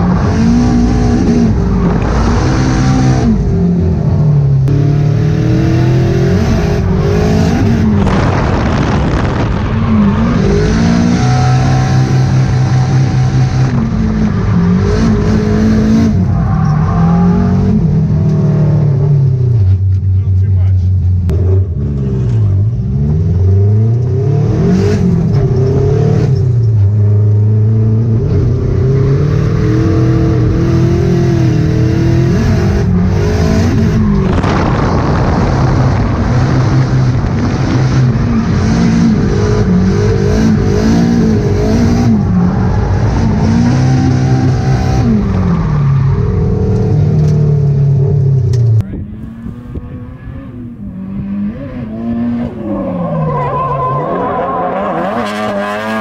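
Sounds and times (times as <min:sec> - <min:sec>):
rush of noise: 0:00.0 - 0:18.8, 0:28.2 - 0:56.0
car engine revving hard: 0:00.0 - 0:19.4, 0:27.1 - 0:56.0.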